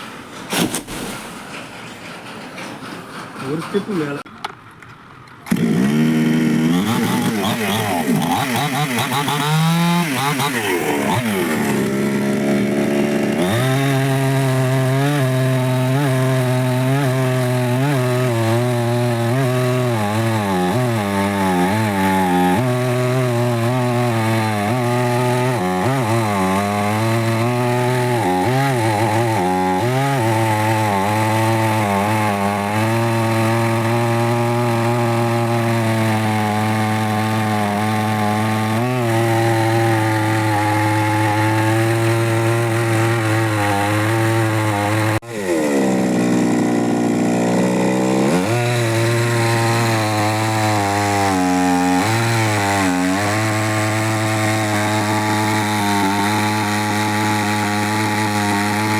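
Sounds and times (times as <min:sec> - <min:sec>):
chainsaw cutting wood: 0:05.4 - 0:58.9.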